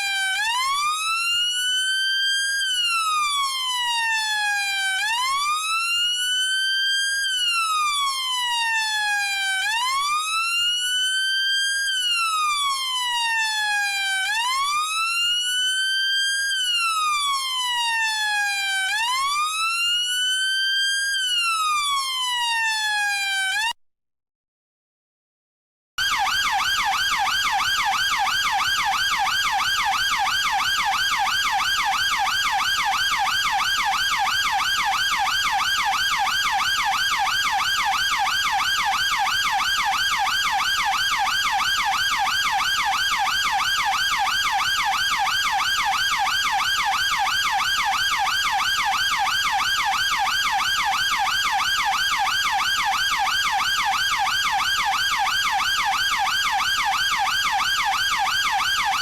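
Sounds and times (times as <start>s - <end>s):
police siren yelping: 0.0s - 23.7s, 26.0s - 59.0s.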